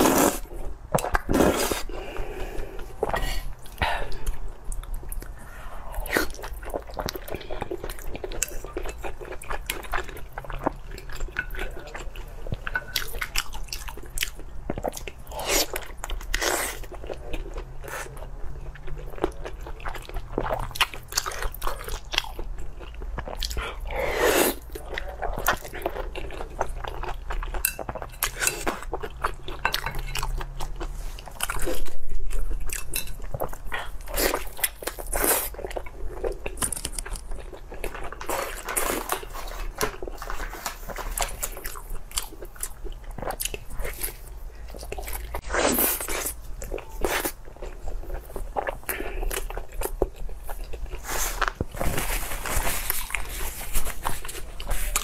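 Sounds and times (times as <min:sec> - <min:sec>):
person chewing with wet smacking: 0:02.8 - 0:23.9, 0:24.5 - 0:55.0.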